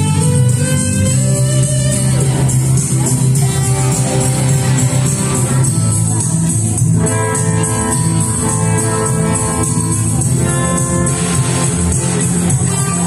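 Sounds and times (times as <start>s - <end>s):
electric and acoustic guitars playing: 0.0s - 13.0s.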